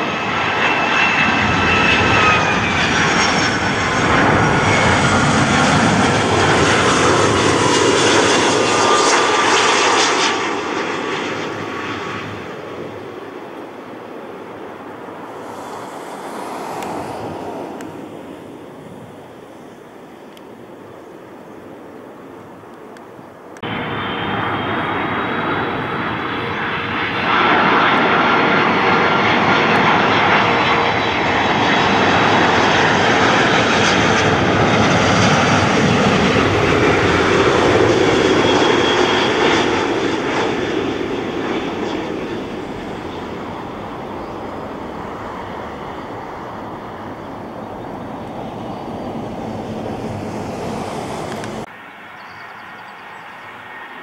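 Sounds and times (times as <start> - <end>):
distant jet: 0.0 - 54.0
jet airliner flying past: 0.0 - 54.0.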